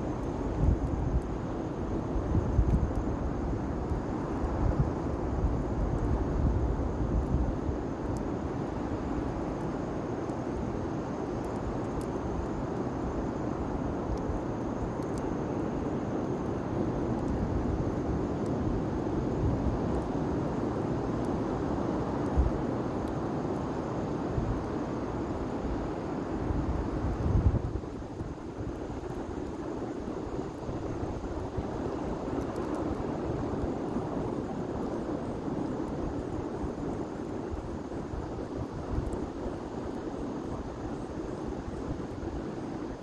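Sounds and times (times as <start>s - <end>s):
fire crackles: 0.0s - 43.0s
bonfire rushing: 0.1s - 43.0s.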